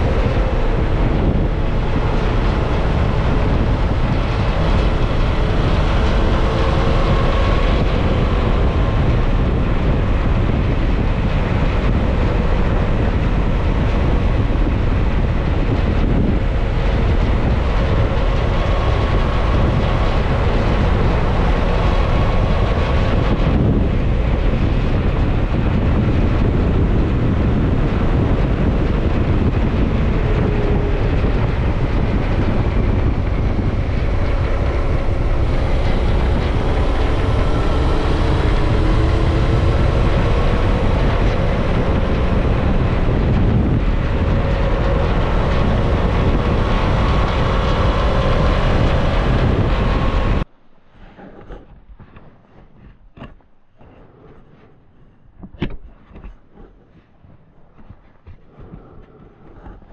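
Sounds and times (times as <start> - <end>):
motorcycle engine running: 0.0 - 50.4
wind rumble on microphone: 0.0 - 59.9.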